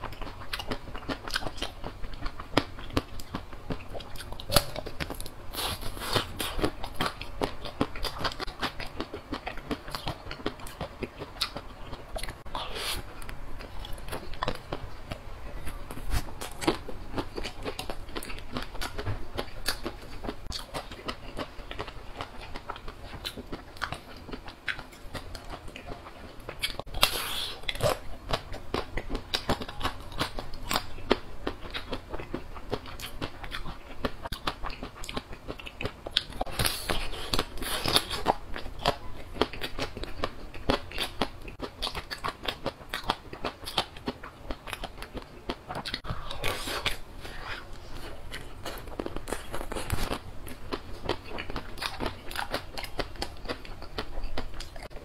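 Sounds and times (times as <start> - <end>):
crunchy chewing of chocolate bars: 0.0 - 55.0.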